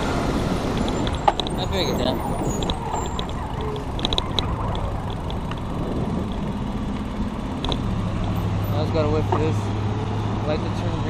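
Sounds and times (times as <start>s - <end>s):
vehicles passing: 0.0s - 11.0s.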